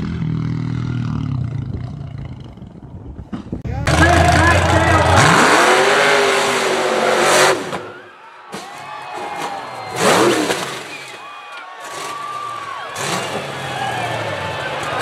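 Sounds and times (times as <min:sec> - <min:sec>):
buggy engine revving: 0:00.0 - 0:08.0, 0:09.4 - 0:11.2, 0:11.8 - 0:15.0.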